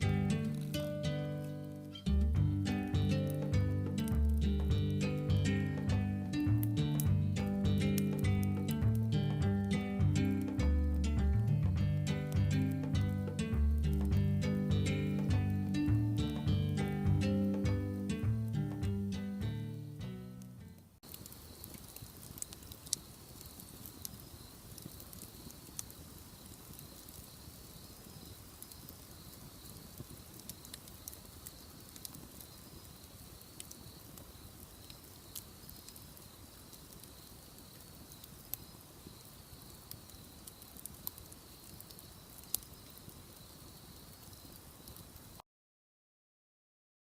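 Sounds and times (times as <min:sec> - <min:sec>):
bonfire crackling and popping: 0:00.0 - 0:45.4.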